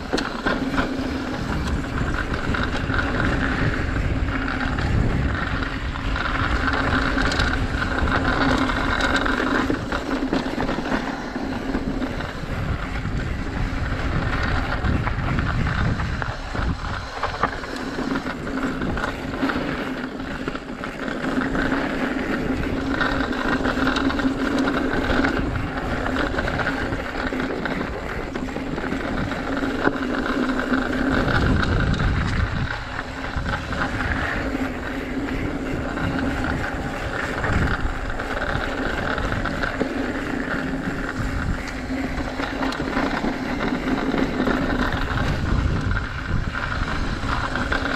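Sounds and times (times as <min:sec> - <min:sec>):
steady buzz: 0:00.0 - 0:47.9
tyres rumbling over ground: 0:00.0 - 0:47.9
wind buffeting microphone: 0:00.0 - 0:47.9.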